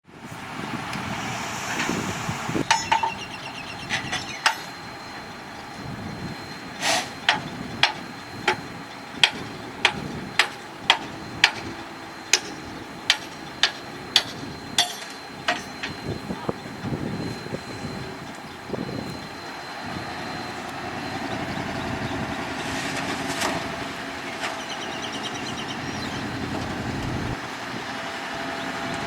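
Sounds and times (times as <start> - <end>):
bulldozer engine rumble: 0.0 - 29.0
steel tracks clanking: 0.3 - 29.0.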